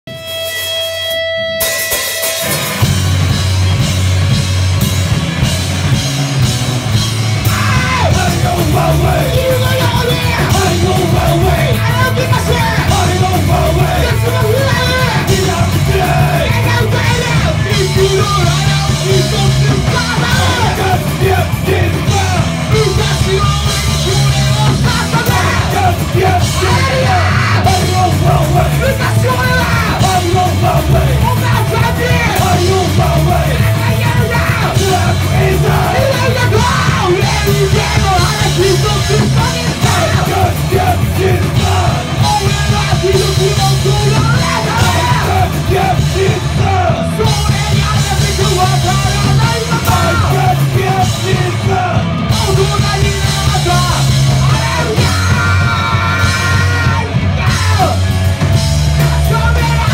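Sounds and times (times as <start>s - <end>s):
punk rock band playing: 0.0s - 59.9s
shouted vocals: 7.4s - 58.2s, 59.0s - 59.9s.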